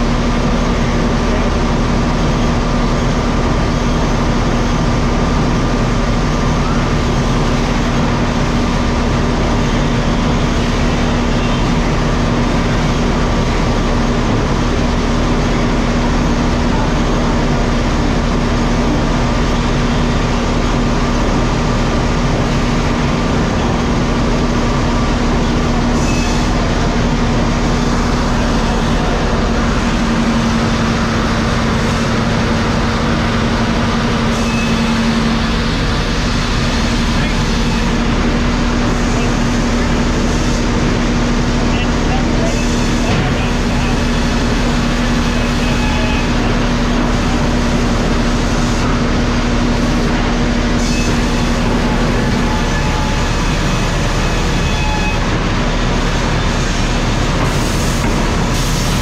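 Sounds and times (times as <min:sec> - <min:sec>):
sawmill machinery din: 0:00.0 - 0:59.0.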